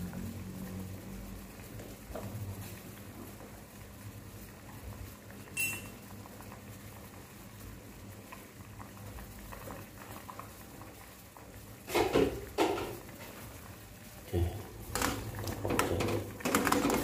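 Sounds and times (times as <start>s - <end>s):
liquid boiling in saucepan: 0.0s - 17.0s.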